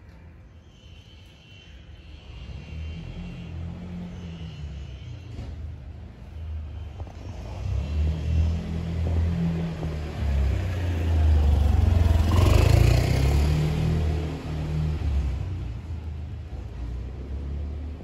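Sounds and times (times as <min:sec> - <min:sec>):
vehicle passing by: 0:02.4 - 0:18.0.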